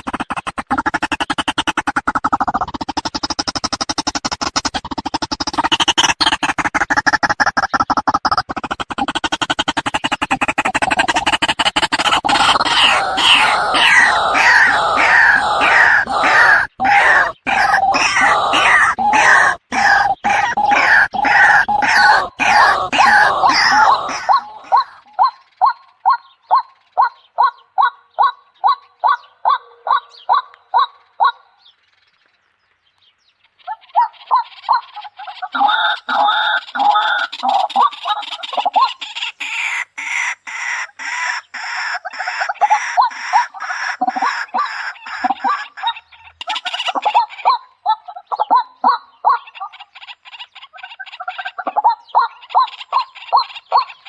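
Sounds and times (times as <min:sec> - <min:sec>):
birds calling loudly: 0:00.0 - 0:54.0.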